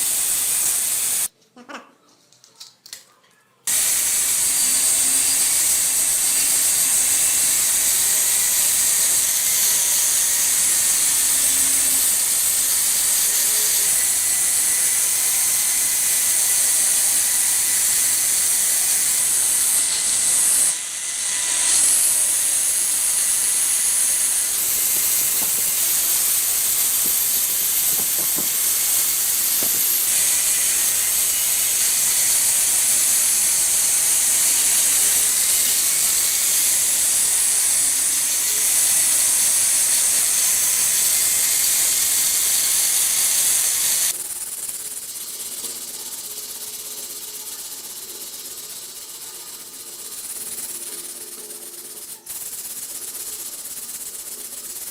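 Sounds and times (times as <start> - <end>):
angle grinder abrading metal: 0.0 - 1.3, 3.7 - 54.9.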